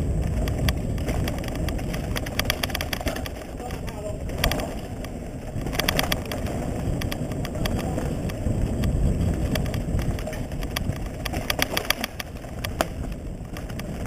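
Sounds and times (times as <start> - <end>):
bike clicking and rattling: 0.0 - 14.0
tyres rolling on dirt: 0.0 - 14.0
wind buffeting microphone: 0.0 - 14.0.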